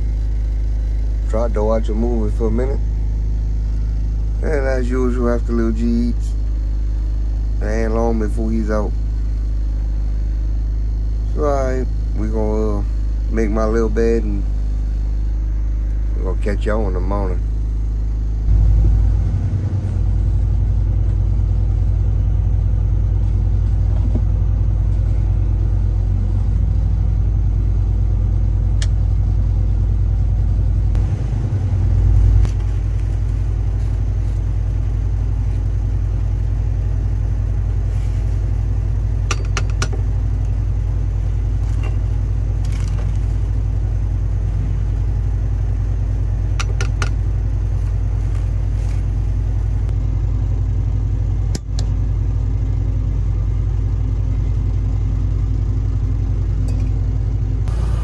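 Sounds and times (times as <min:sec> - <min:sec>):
low motor hum: 0:00.0 - 0:58.0.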